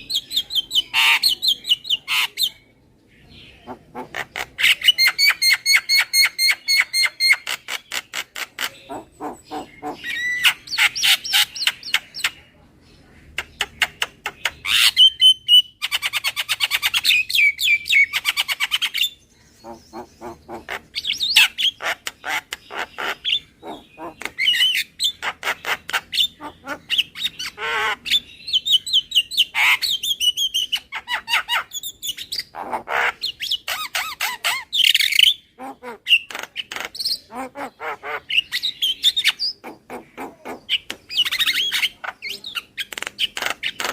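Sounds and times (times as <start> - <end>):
bird chattering and squawking: 0.0 - 43.9.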